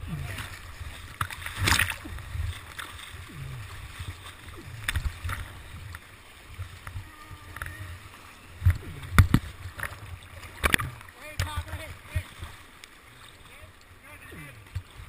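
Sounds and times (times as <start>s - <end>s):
water splashing over boat: 0.0s - 15.0s
whitewater rapids rushing: 0.2s - 14.7s.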